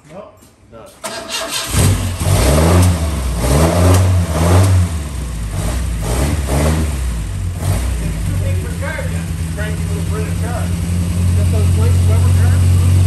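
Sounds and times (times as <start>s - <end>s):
car engine revving and idling: 1.0s - 13.0s.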